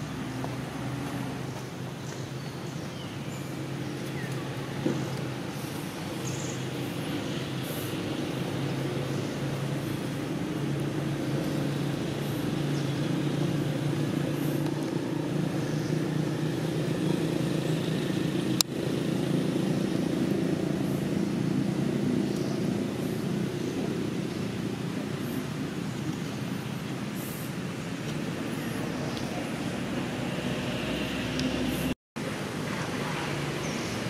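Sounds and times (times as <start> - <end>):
low engine drone: 2.8 - 34.0.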